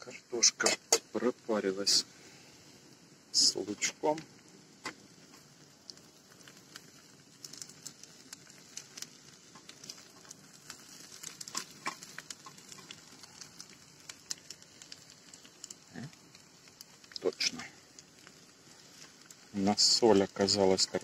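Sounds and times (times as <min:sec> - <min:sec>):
potatoes sizzling in a pan: 0:00.0 - 0:21.0.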